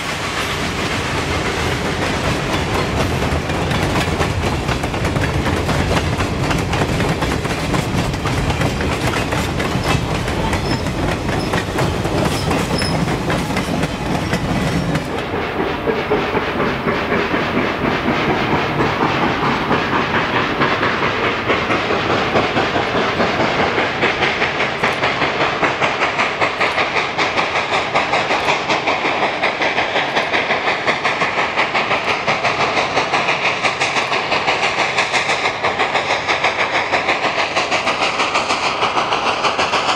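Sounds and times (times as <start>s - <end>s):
steam locomotive exhaust beating: 0.0s - 39.9s
train wheels clacking over rail joints: 0.0s - 39.9s.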